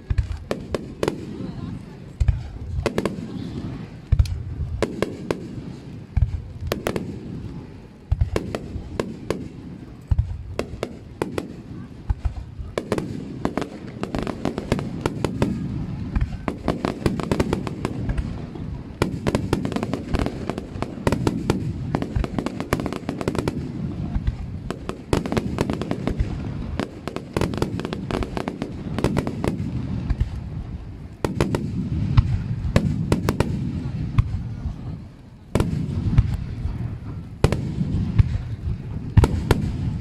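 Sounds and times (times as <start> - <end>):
firework cracks and crackles: 0.0 - 40.0.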